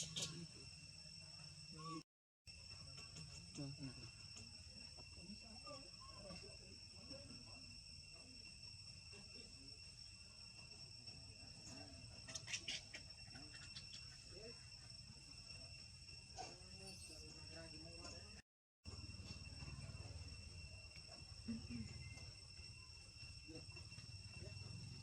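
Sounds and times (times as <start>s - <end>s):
insect chorus trilling drone: 0.0s - 25.0s.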